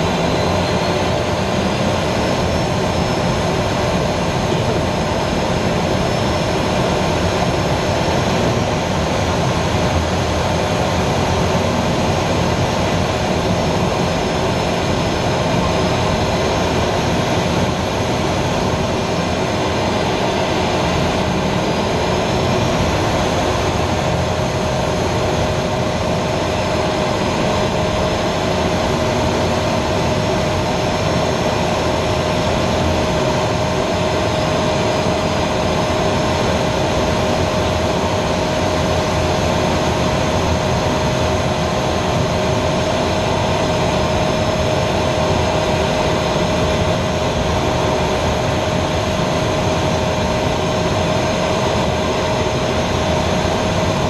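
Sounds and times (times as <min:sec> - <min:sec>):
jet engine whine in cockpit: 0:00.0 - 0:54.0.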